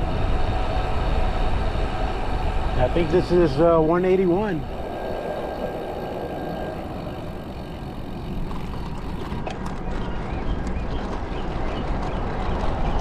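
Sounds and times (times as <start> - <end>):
road noise: 0.0 - 13.0
wind rushing over microphone: 0.0 - 13.0.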